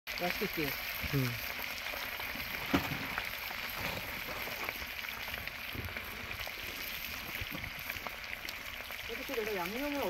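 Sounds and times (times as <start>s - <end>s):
fish sizzling in oil: 0.1s - 10.0s.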